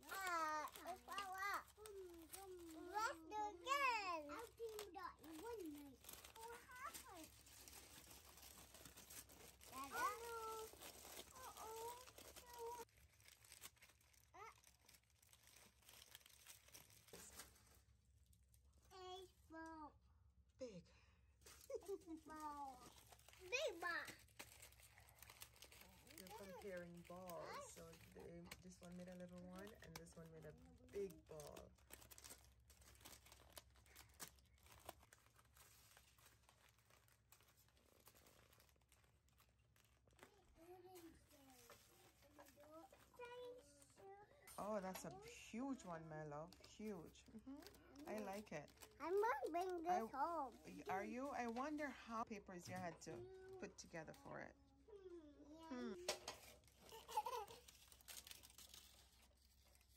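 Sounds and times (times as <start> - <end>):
aluminium foil crinkling: 0.0 - 19.0, 21.4 - 54.4, 55.7 - 59.9.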